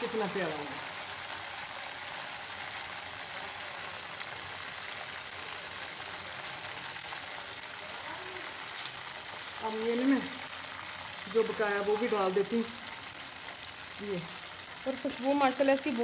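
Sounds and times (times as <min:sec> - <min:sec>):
faint crackles: 0:00.0 - 0:16.0
hot oil sizzling in a pan: 0:00.0 - 0:16.0.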